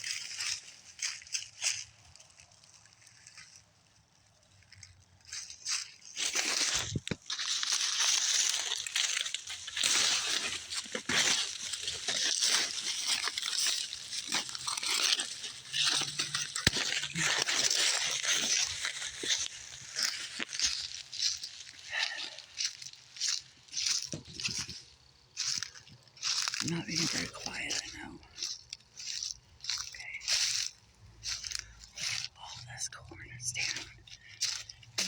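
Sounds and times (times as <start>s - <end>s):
dry corn stalks rustling: 0.0s - 35.0s
footsteps on dry debris: 0.0s - 35.0s.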